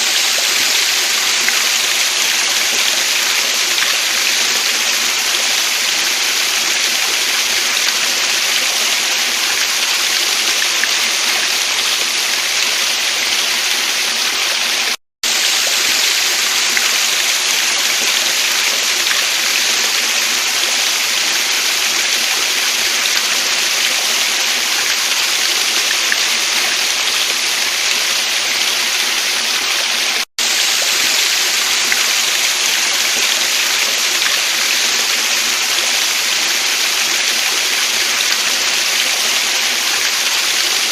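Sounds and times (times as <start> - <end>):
waterfall stream rushing: 0.0 - 40.9.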